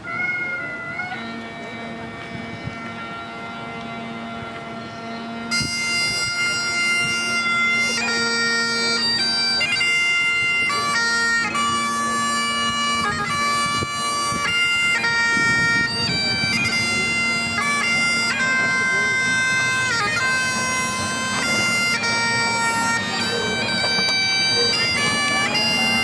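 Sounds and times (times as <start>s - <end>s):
bagpipes playing a slow tune: 0.0s - 26.0s.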